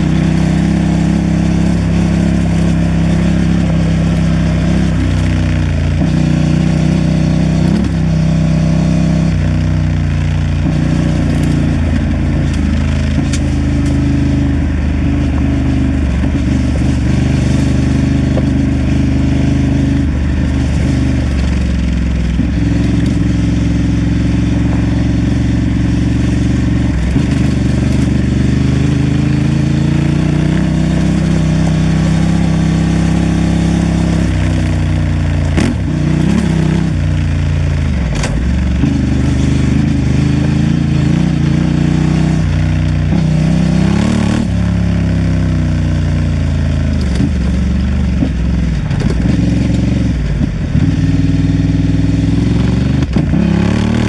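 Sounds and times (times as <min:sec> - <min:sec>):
motorcycle engine running: 0:00.0 - 0:54.0
wind: 0:00.0 - 0:54.0.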